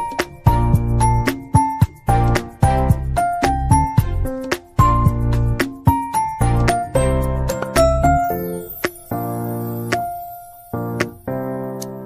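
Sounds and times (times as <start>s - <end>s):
bright plucked melody over bass: 0.0s - 10.0s.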